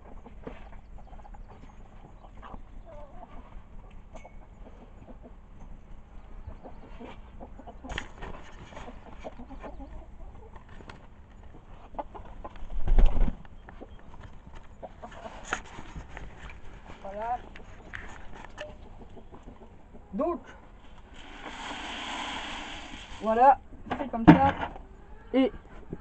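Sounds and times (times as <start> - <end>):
hens clucking: 0.0 - 23.4, 24.7 - 26.0.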